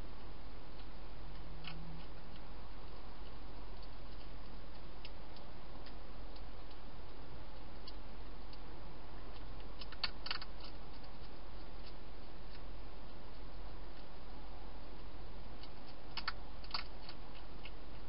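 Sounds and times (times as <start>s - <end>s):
hedgehog crunching dry food: 0.7s - 18.0s.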